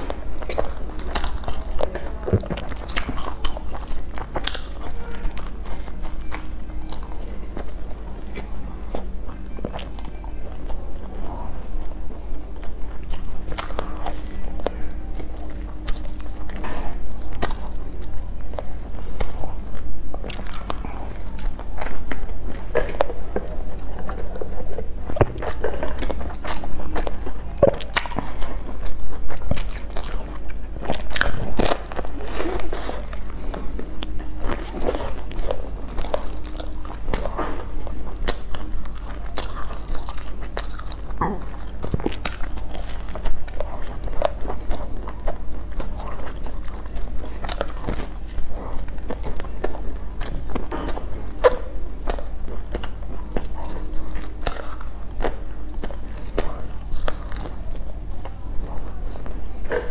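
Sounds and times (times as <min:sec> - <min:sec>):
person biting and chewing: 0:00.0 - 0:59.9.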